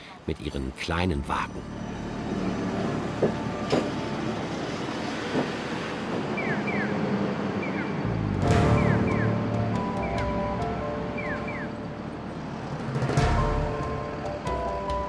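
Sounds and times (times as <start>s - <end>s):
street traffic rumble: 0.0s - 15.0s
heavy vehicle rumble: 1.4s - 15.0s.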